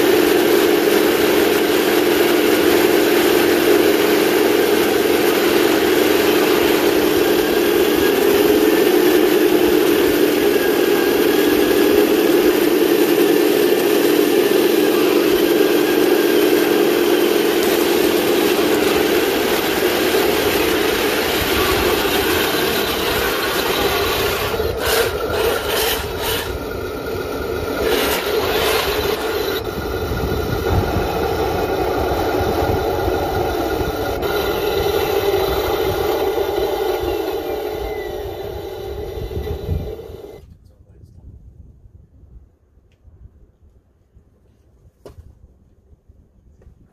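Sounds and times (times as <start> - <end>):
model tanks mechanical drone: 0.0 - 40.4.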